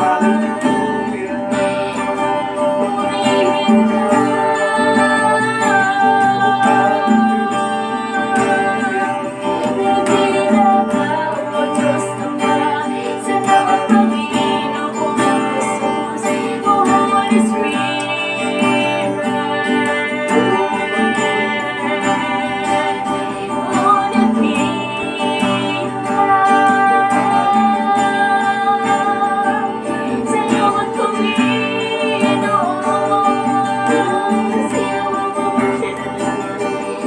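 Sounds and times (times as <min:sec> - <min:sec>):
acoustic guitar strumming: 0:00.0 - 0:37.0
man and woman singing: 0:00.0 - 0:37.0.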